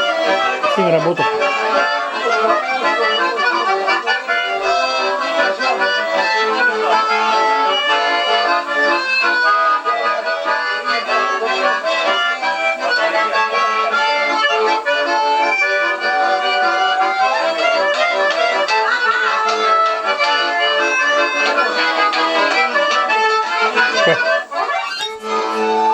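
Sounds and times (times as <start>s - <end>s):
button accordion playing a tune: 0.0s - 25.9s.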